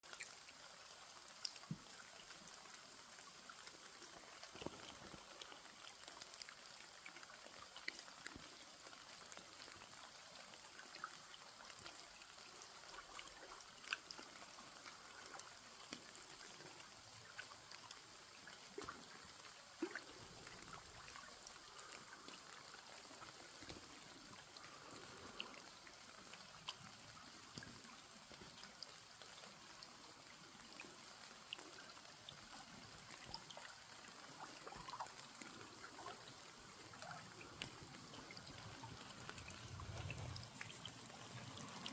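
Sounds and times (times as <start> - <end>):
faint trickling water: 0.0 - 41.9
small drips and ticks: 0.0 - 41.9.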